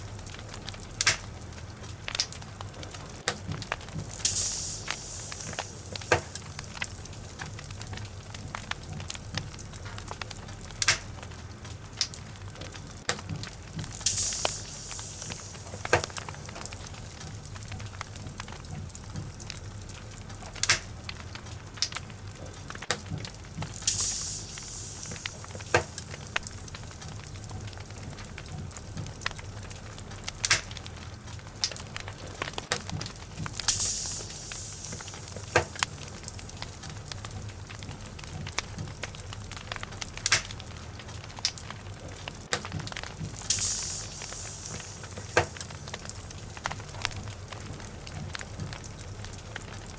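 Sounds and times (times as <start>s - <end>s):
low rumble of flames: 0.0s - 49.9s
wood logs crackling in fireplace: 0.0s - 49.9s.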